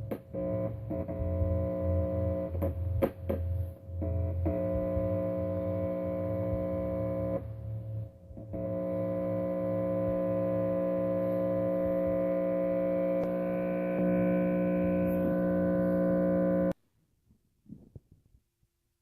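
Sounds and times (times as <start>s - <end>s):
electrical arc buzzing: 0.0s - 16.8s
faint electrical crackles: 0.0s - 16.8s.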